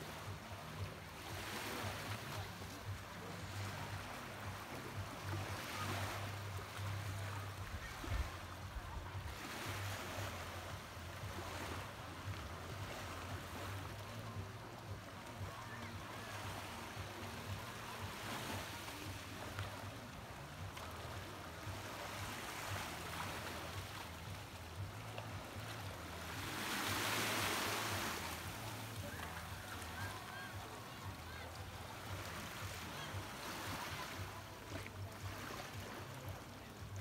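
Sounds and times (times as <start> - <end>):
small waves washing on shore: 0.0 - 37.0.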